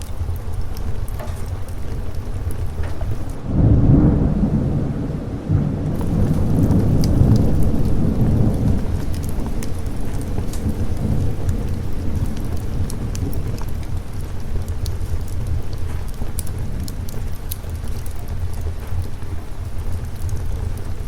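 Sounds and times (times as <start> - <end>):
rolling thunder: 0.0 - 21.0
steady rain: 0.0 - 21.0.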